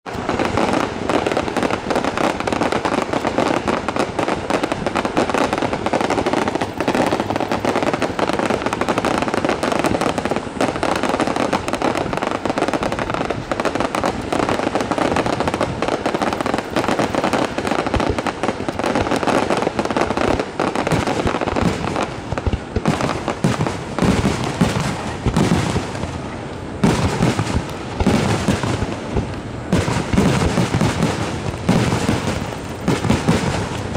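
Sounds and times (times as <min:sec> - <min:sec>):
fireworks barrage: 0:00.0 - 0:33.9
fireworks booms: 0:00.1 - 0:33.9.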